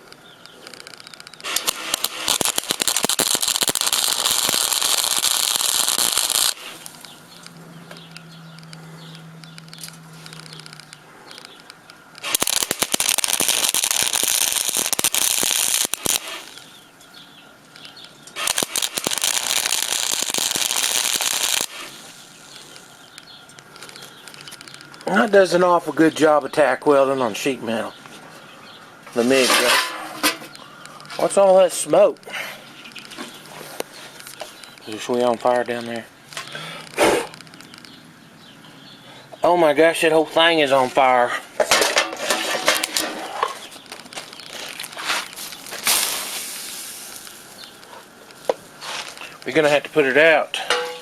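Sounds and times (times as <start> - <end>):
welding arc crackling: 0.0 - 26.8, 32.8 - 38.0, 39.6 - 51.0.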